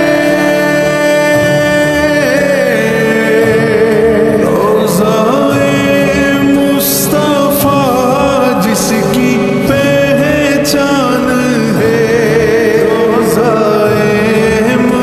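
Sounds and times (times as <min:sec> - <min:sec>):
person singing long held notes: 0:00.0 - 0:15.0.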